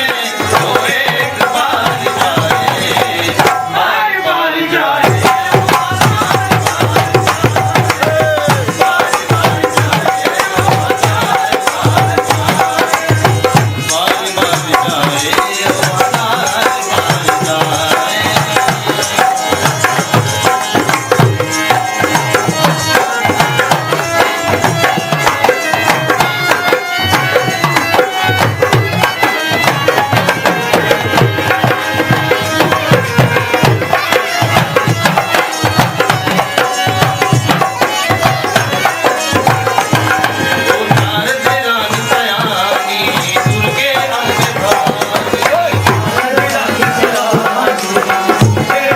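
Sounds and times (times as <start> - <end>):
hand drum beat: 5.0 - 48.9.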